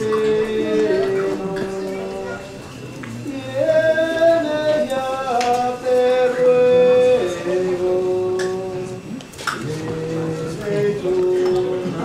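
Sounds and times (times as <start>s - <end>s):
person singing long held notes: 0.0s - 12.0s.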